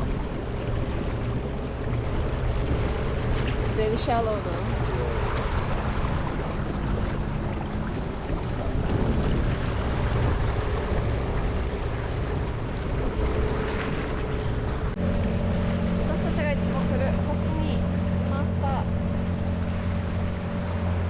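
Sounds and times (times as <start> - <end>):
outboard motor running: 0.0 - 21.0
rushing water: 0.0 - 21.0
wind buffeting microphone: 0.0 - 21.0.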